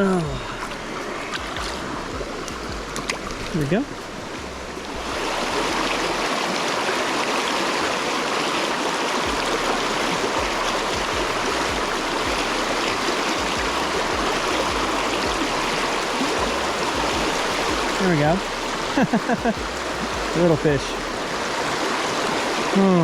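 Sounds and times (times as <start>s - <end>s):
river current rushing: 0.0s - 23.0s.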